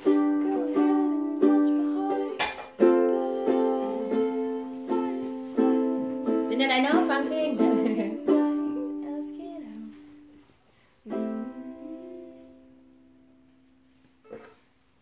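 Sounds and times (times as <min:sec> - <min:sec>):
ukulele chords strummed: 0:00.0 - 0:10.3, 0:11.1 - 0:13.7.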